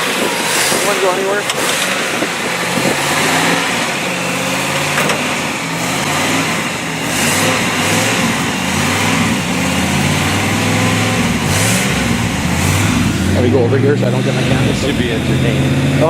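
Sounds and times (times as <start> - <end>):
engine revving: 0.0 - 16.0.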